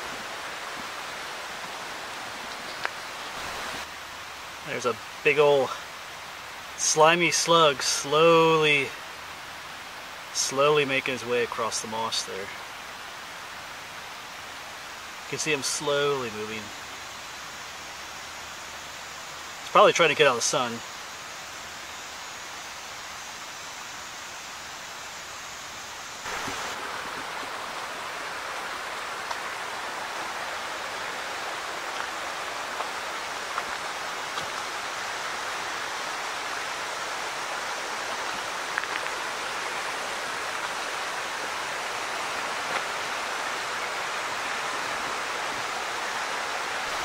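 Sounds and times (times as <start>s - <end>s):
creek water rushing over stones: 0.0s - 47.0s.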